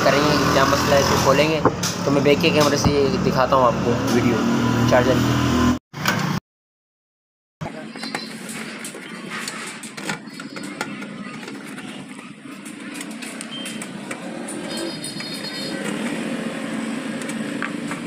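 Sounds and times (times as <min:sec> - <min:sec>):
street traffic: 0:00.0 - 0:06.4, 0:07.6 - 0:18.0.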